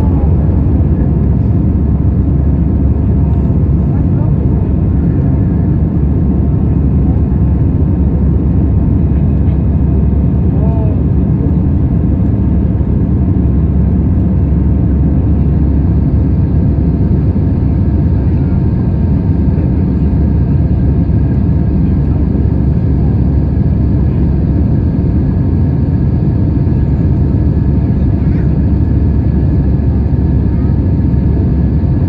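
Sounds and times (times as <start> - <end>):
airplane engine rumble in cabin: 0.0 - 32.0.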